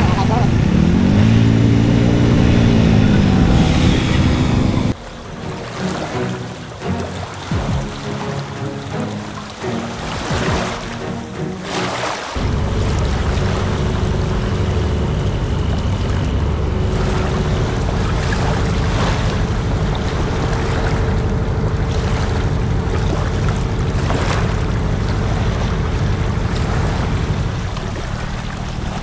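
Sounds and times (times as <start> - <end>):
boat engine running: 0.0 - 29.0
water rushing along hull: 0.0 - 29.0.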